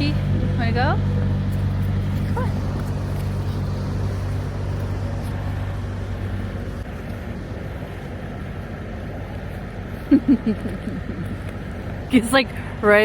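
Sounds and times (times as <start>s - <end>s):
road noise inside cab: 0.0s - 13.0s
truck engine drone: 0.0s - 13.0s.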